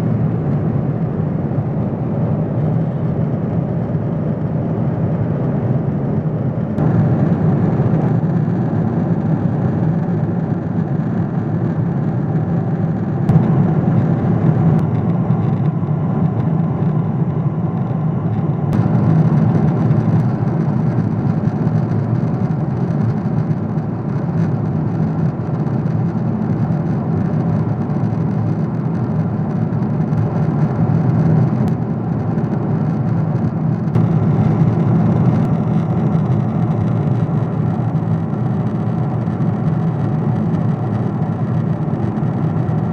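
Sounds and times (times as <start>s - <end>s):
airplane cabin drone: 0.0s - 42.9s.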